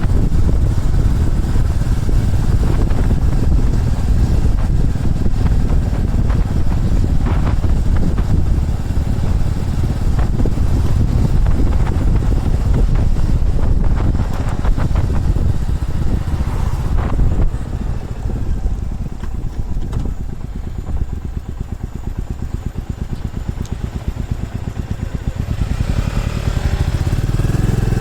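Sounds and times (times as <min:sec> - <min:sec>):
motorcycle engine rumble: 0:00.0 - 0:28.0
road and air noise: 0:00.0 - 0:28.0.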